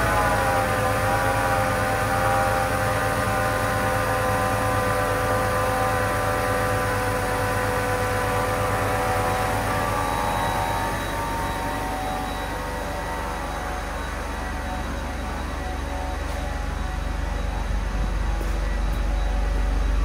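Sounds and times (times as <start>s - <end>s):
car engine idling: 2.8s - 20.0s.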